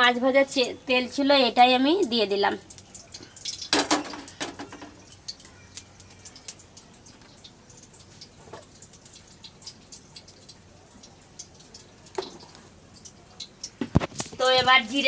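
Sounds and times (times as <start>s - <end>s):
oil crackling and popping: 0.1s - 15.0s.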